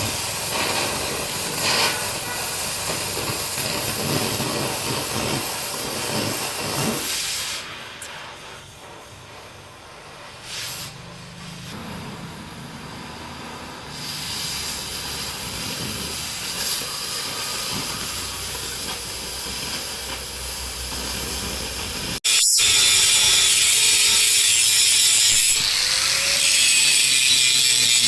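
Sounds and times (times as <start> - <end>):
gas cutting torch hissing: 0.0 - 28.0.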